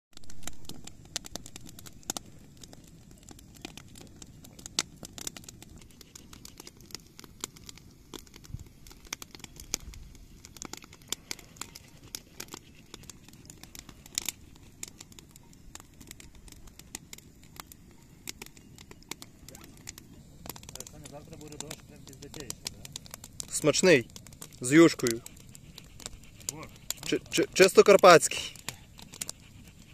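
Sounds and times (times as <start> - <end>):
campfire crackling: 0.1 - 29.9.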